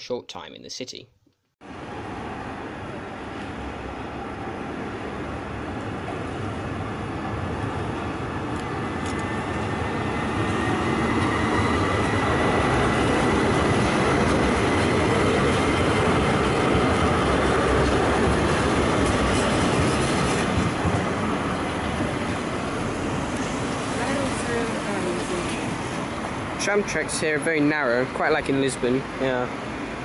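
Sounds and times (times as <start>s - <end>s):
tram rolling on rails: 1.7s - 30.0s.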